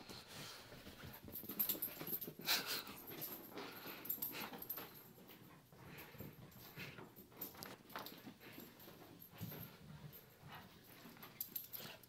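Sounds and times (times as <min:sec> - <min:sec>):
dog breathing noises: 0:00.0 - 0:12.0.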